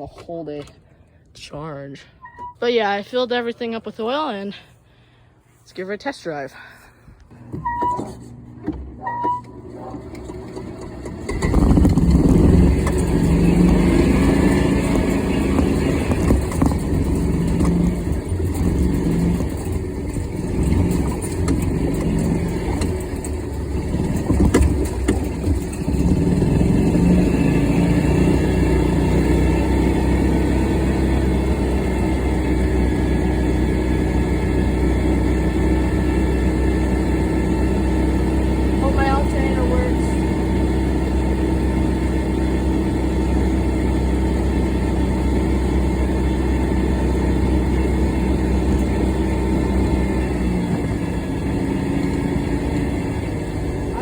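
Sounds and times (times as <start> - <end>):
golf cart engine: 6.9 - 54.0.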